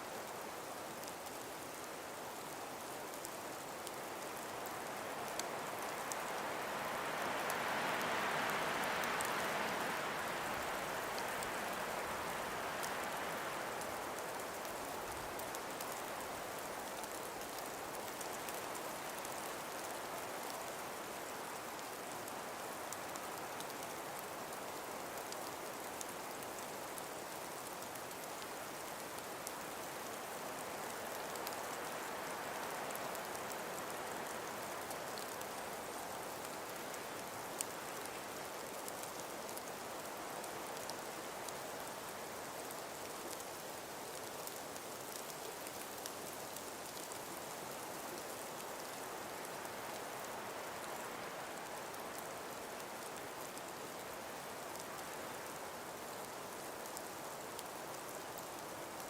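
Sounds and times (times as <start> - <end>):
steady rushing hiss: 0.0 - 59.0
light ticks: 0.8 - 59.0.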